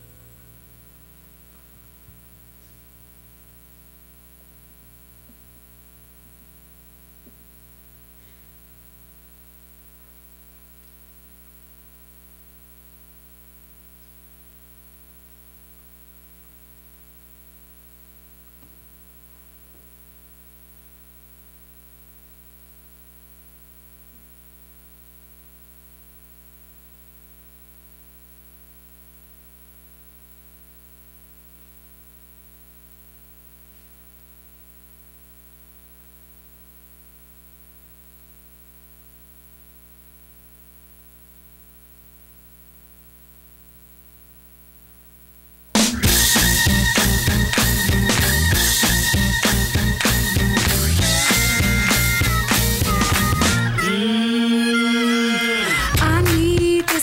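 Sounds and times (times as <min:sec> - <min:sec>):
electrical mains hum: 0:00.0 - 0:53.8
static: 0:00.0 - 0:53.8.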